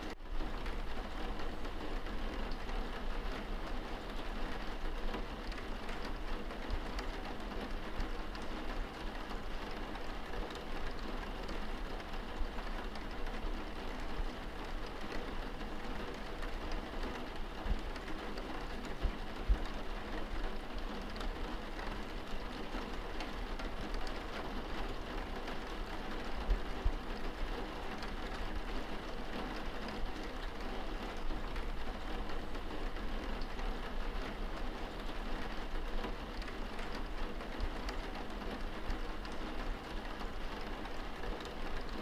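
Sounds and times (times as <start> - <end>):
rain on window: 0.0 - 42.0.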